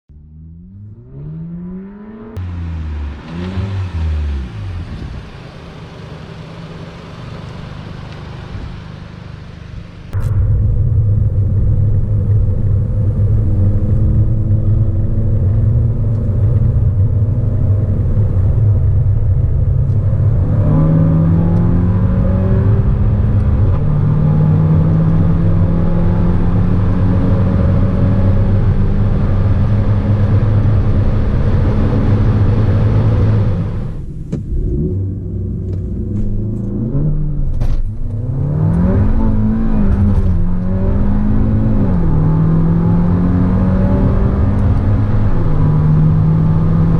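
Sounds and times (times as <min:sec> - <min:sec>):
turbocharged car engine accelerating: 0:00.1 - 0:46.9.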